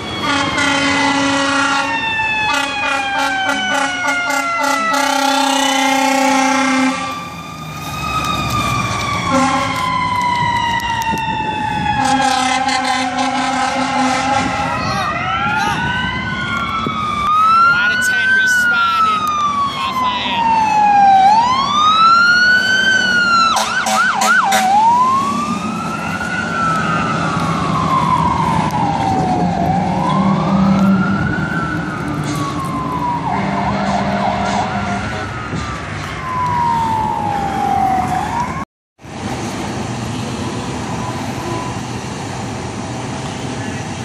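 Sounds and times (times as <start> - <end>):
short low siren blasts: 0.0 - 38.6
fire truck siren wailing: 0.0 - 44.0.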